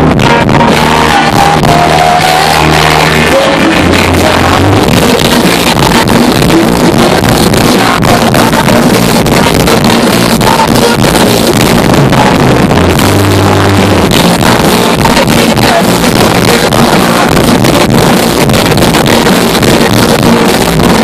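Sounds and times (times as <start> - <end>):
person singing: 0.0 - 21.0
rock band playing live: 0.0 - 21.0.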